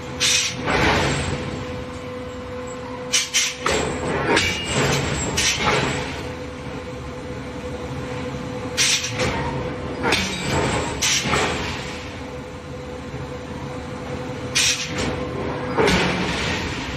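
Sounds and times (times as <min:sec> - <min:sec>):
forging machinery humming: 0:00.0 - 0:16.9.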